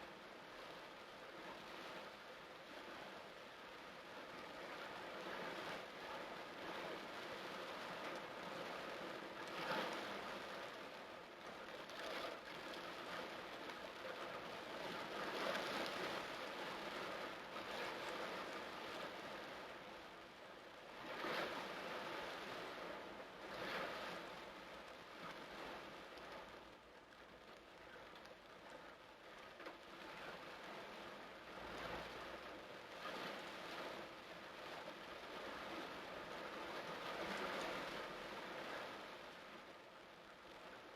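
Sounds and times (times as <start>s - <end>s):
torrential rain pouring: 0.0s - 40.9s.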